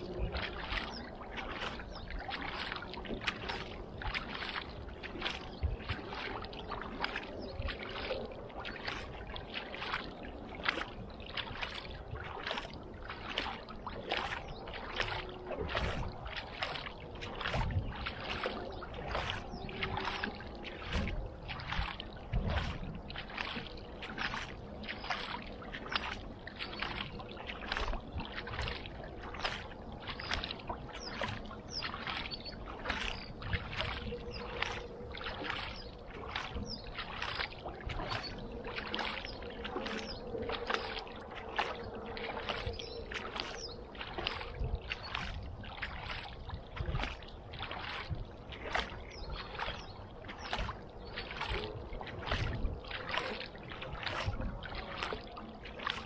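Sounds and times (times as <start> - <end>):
kayak paddle splashing: 0.0 - 56.0.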